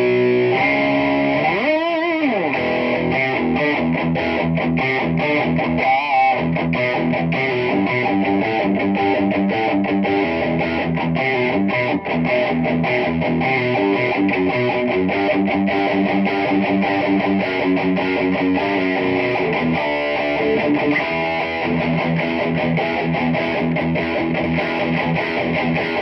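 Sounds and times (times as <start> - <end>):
electric guitar riff: 0.0 - 26.0.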